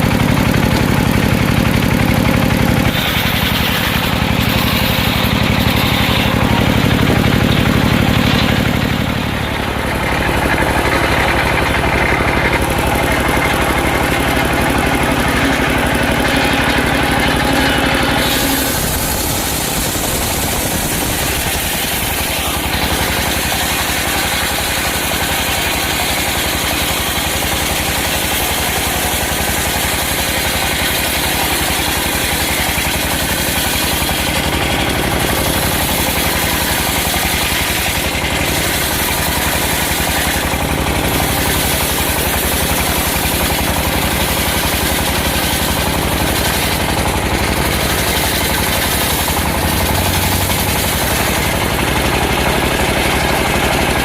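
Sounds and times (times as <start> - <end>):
circular sawmill running: 0.0 - 54.0.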